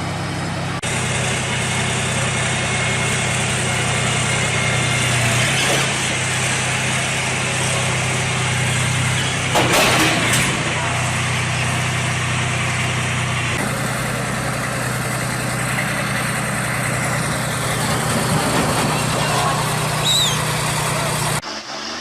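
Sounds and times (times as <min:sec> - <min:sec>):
construction machine engine running: 0:00.0 - 0:22.0.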